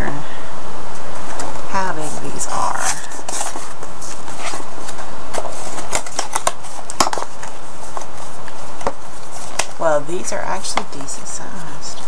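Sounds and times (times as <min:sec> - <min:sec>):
cardboard box and wrappers crinkling: 0:01.3 - 0:12.0.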